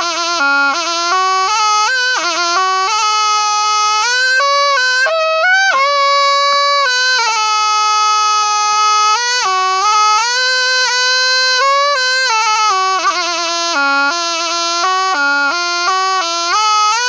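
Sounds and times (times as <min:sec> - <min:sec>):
reed oboe solo melody: 0:00.0 - 0:17.0.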